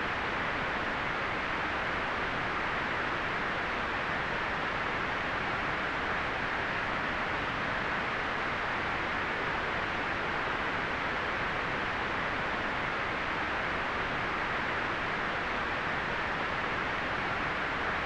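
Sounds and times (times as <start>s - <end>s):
synthetic white noise hiss: 0.0s - 18.0s.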